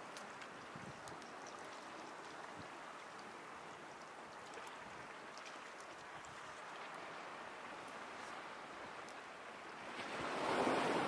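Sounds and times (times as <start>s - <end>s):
sea waves washing on shore: 0.0s - 11.0s.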